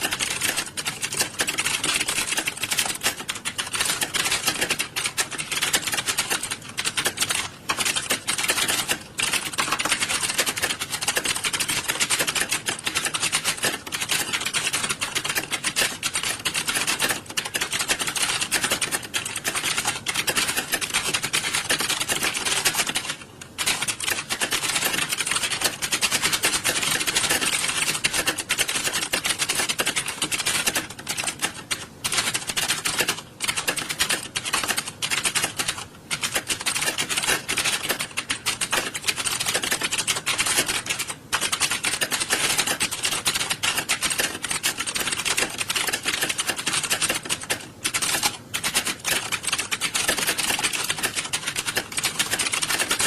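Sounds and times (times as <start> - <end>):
keyboards clattering: 0.0 - 53.0.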